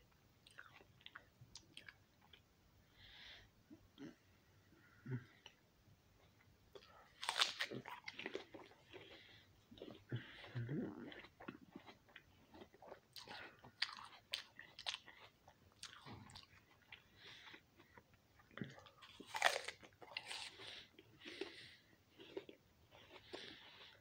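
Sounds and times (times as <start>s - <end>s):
person chewing crisp apple: 0.4s - 2.4s, 6.8s - 24.0s.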